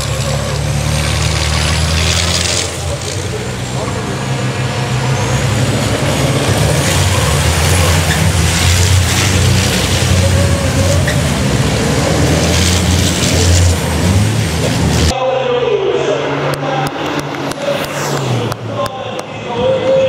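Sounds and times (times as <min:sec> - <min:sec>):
truck engines droning: 0:00.0 - 0:20.0.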